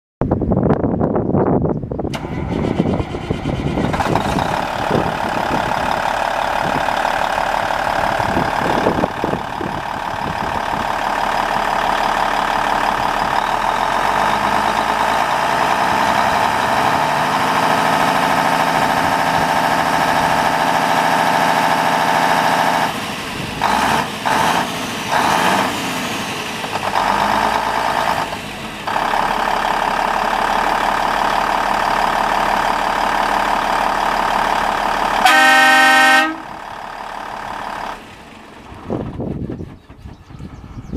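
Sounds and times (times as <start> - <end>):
diesel truck engine idling: 2.1 - 40.9.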